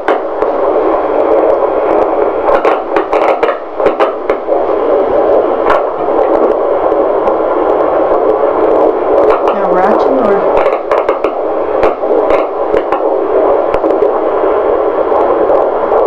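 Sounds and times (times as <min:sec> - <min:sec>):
doppler static hiss: 0:00.0 - 0:16.0.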